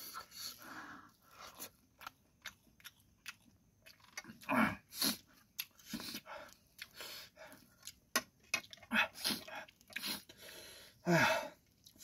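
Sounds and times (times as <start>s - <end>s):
person chewing: 0.0s - 10.5s, 11.6s - 12.0s.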